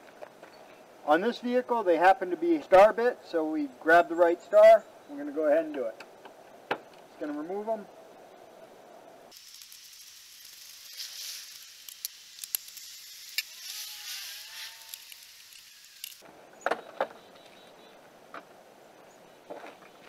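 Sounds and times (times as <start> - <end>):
steady hiss: 0.0 - 16.6.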